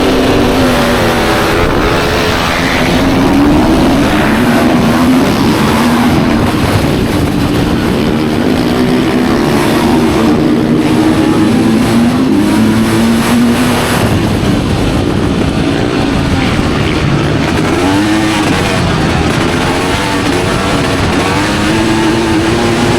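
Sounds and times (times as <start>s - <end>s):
motorcycle engine running hard: 0.0s - 22.9s.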